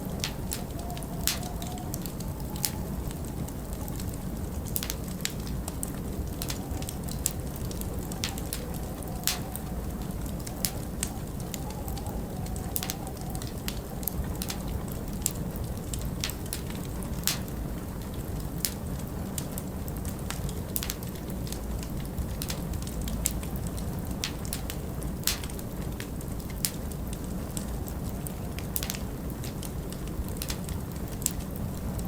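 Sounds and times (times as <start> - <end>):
low rumble of wind: 0.0 - 32.0
wood fire crackling and popping: 0.0 - 32.0.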